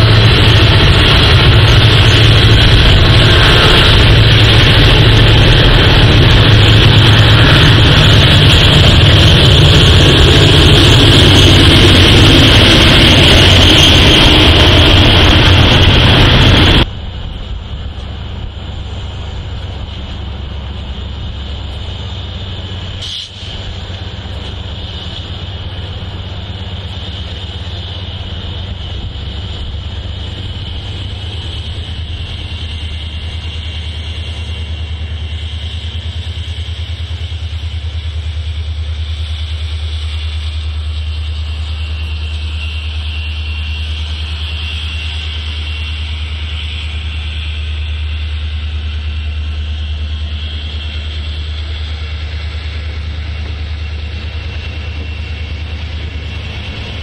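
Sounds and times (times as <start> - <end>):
diesel locomotive passing: 0.0 - 57.0
low diesel locomotive drone: 0.0 - 57.0.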